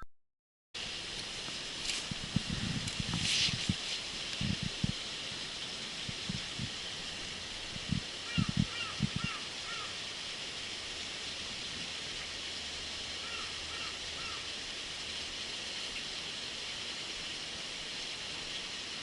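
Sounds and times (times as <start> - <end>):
flowing water rushing: 0.8 - 19.0.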